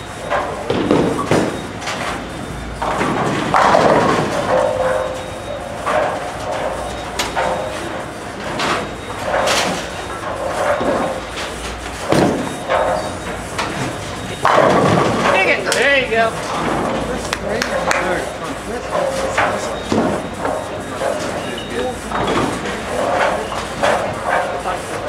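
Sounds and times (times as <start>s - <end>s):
bowling balls and pins clattering: 0.0s - 25.0s
voices: 4.4s - 25.0s.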